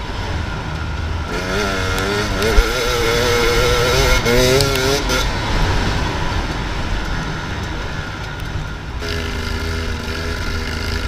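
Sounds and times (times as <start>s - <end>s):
motorcycle engine rough rumble: 0.0s - 11.0s.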